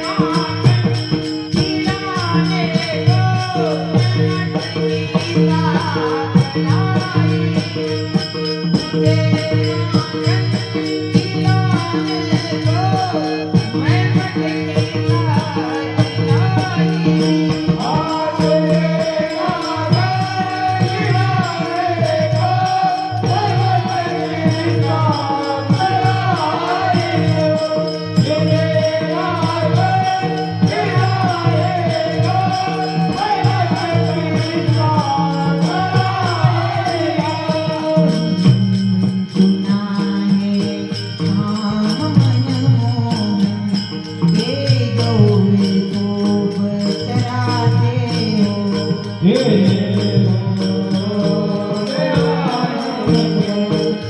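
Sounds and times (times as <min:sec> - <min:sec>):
jingling percussion strokes: 0:00.0 - 0:54.0.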